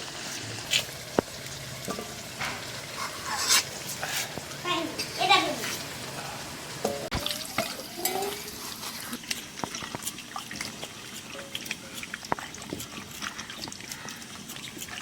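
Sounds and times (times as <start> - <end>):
curry crackling in a pan: 0.0 - 15.0.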